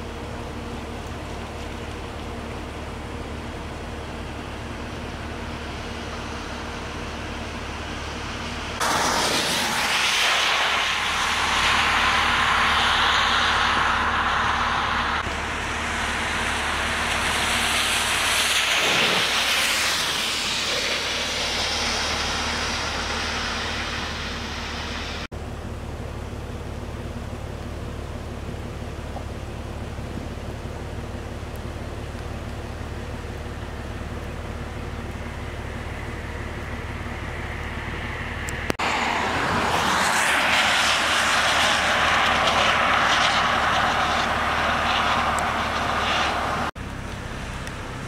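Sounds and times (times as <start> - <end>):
rain hissing on street: 0.0 - 48.0
car passing on wet road: 3.2 - 25.3, 29.2 - 48.0.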